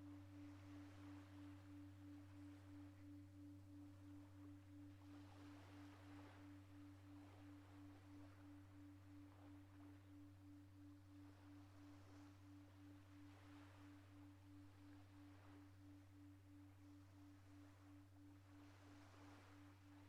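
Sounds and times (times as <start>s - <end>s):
low steady hum: 0.0s - 20.0s
singing bowl ringing: 0.0s - 20.0s.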